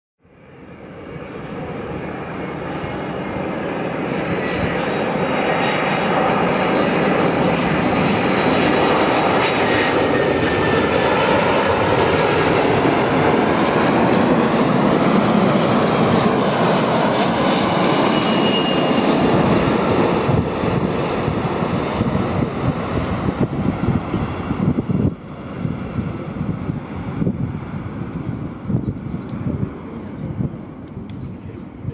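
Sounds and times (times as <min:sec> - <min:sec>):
jet engine rush: 0:00.3 - 0:31.9.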